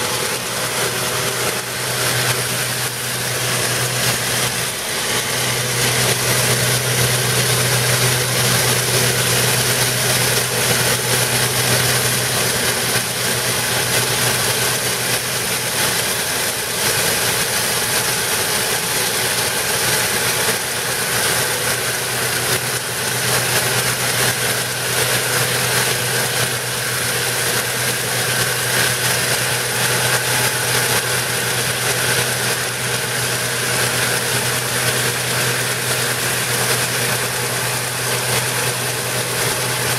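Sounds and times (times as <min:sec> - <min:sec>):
truck engine and pump running: 0:00.0 - 0:39.9.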